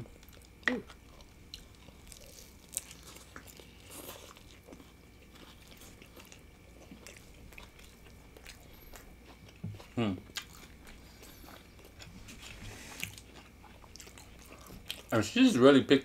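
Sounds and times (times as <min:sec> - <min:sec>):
people chewing food: 0:00.0 - 0:15.6.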